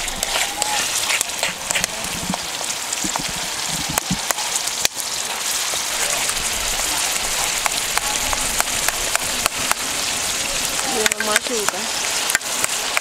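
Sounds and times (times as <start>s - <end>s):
vegetables frying hiss with pops: 0.0s - 13.0s.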